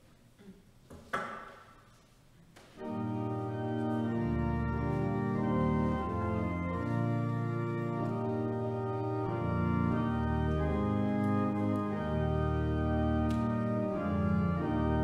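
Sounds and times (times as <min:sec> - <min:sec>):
church organ chords: 0:02.8 - 0:15.0.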